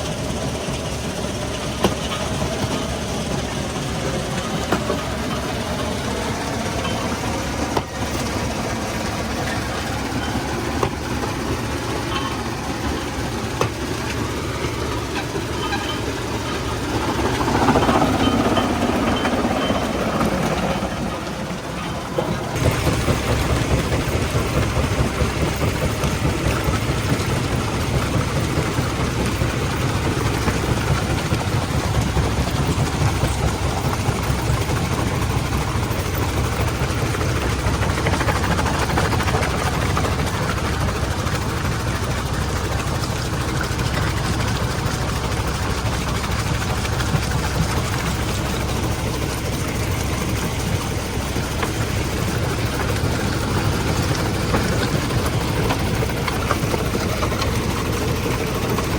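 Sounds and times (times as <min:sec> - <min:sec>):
stone crushing machinery rumbling: 0:00.0 - 0:58.9.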